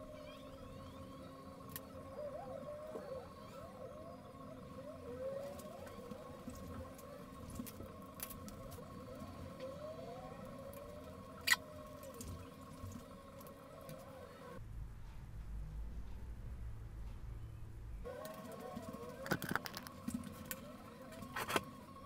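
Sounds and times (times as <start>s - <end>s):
soft drone music: 0.0s - 22.0s.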